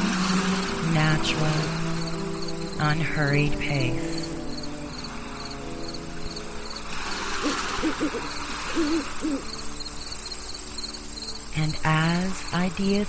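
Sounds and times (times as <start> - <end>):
low wavering calls: 0.0 - 12.2
crickets chirping: 0.0 - 13.0
soft music drone: 0.0 - 13.0.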